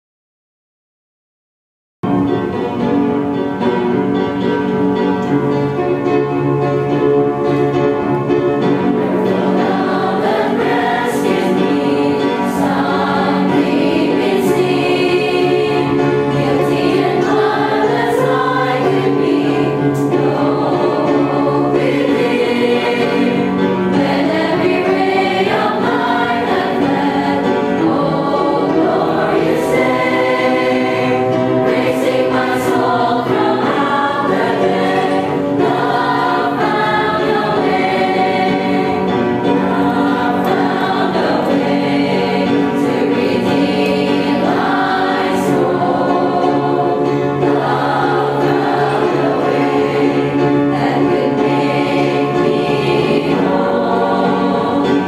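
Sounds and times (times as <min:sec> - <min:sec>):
choir singing a gospel hymn: 0:08.6 - 0:55.0.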